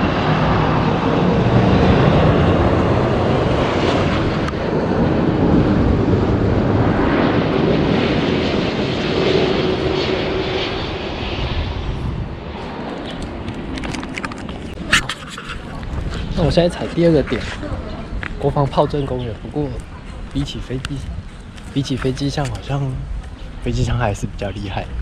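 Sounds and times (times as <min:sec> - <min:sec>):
jet airliner engine roar: 0:00.0 - 0:25.0.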